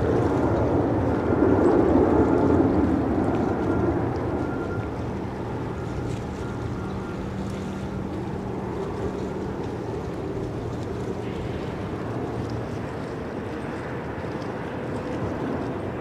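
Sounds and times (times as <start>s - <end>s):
distant jet engines rumbling: 0.0s - 16.0s
wind noise on microphone: 0.0s - 16.0s.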